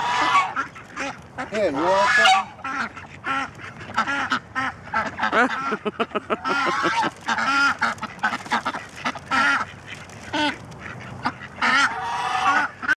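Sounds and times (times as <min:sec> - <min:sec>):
ducks calling harshly: 0:00.0 - 0:13.0.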